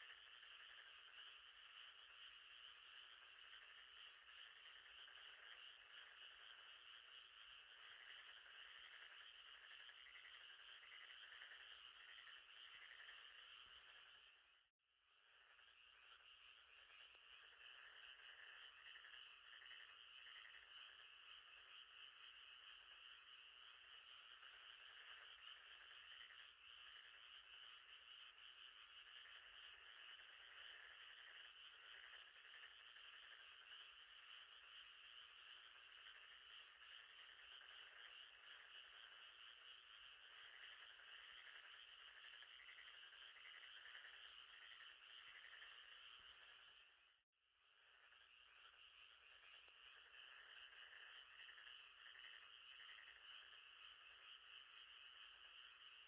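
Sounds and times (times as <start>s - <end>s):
frogs trilling: 0.0s - 14.6s, 15.2s - 47.2s, 47.8s - 56.0s.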